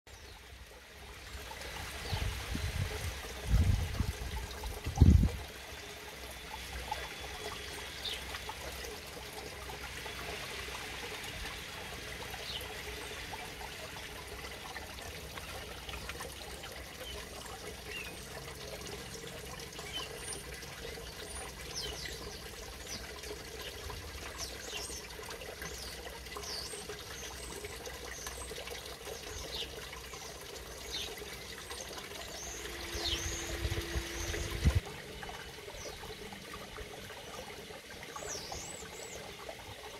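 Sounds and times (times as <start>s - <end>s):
water trickling and splashing: 0.1s - 39.9s.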